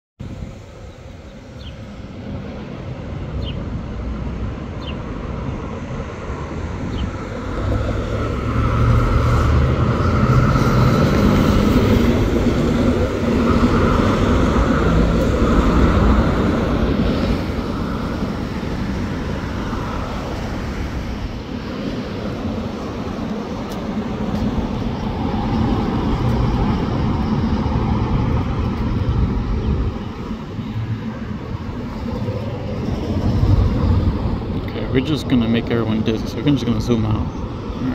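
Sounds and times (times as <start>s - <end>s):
fire engine driving past: 0.2s - 37.9s
road traffic: 0.2s - 37.9s.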